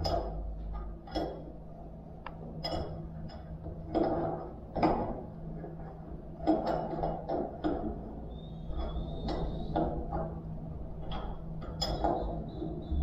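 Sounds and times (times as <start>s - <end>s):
tools and engine parts clicking: 0.0s - 1.5s, 2.2s - 5.2s, 5.8s - 10.4s, 11.0s - 12.9s
steady low hum: 0.0s - 13.0s.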